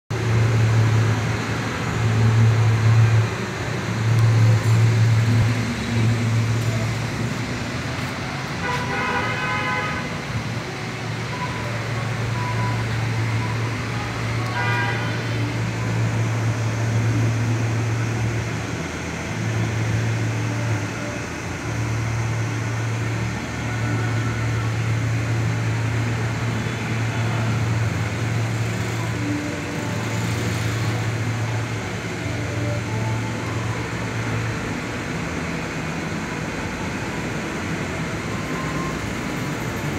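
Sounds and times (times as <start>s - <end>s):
machinery humming: 0.1s - 39.9s.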